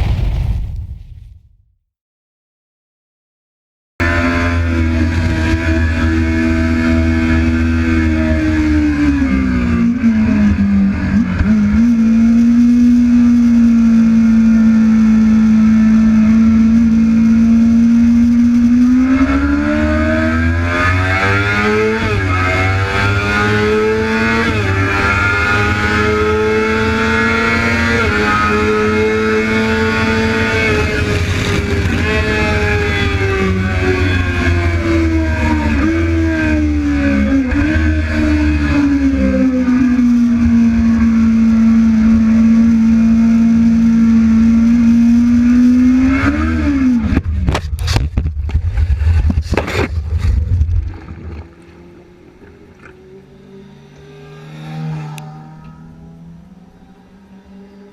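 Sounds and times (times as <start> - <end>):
motorcycle engine at high revs: 4.0 - 57.9.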